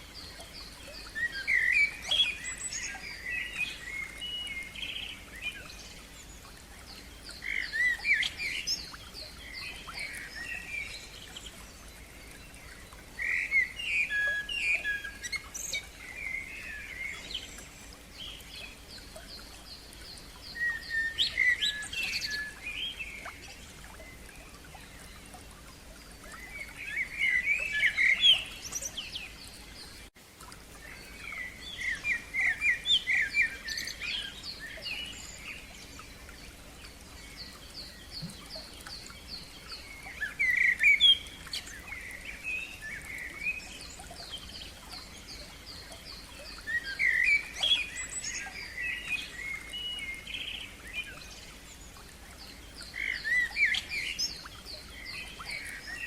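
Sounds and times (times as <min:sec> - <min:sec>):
faint outdoor background: 0:00.0 - 0:56.0
songbird singing: 0:00.0 - 0:56.0.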